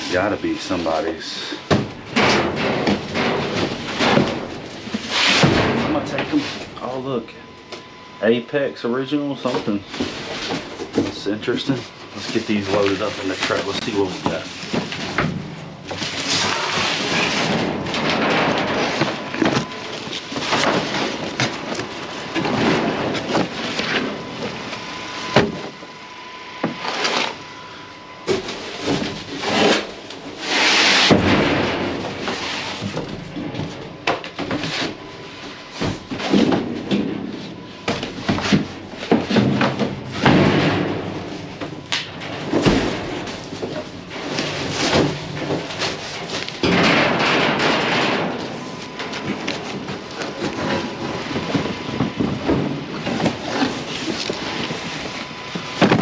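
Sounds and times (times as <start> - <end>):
cardboard boxes scraping and rustling: 2.6 - 7.0, 9.5 - 25.8, 26.7 - 27.6, 28.2 - 40.4, 42.5 - 46.7, 48.7 - 56.0.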